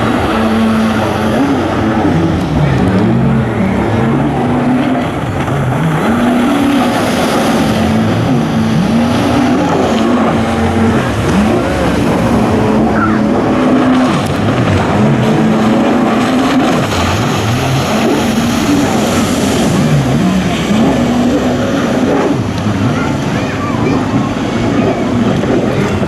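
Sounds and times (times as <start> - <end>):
jet ski engines revving: 0.0 - 26.0.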